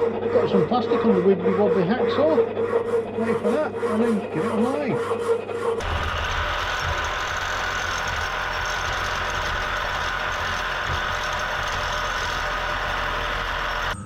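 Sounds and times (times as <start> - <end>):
machine tool motor humming: 0.0 - 14.0.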